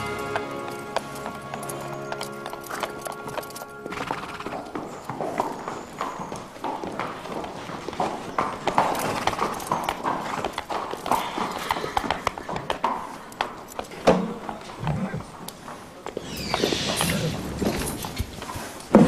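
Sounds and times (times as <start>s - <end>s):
horse hooves clip-clopping: 0.0s - 19.0s.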